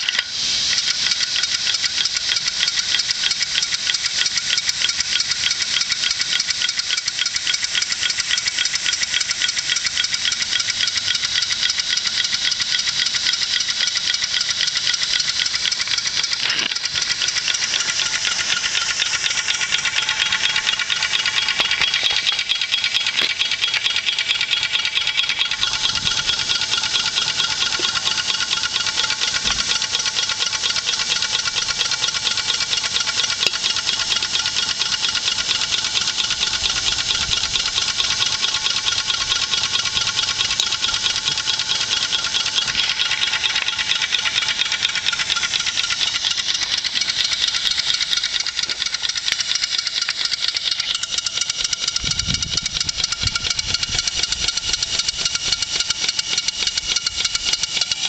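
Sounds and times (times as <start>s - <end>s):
model steam engine exhaust beats: 0.0s - 58.0s.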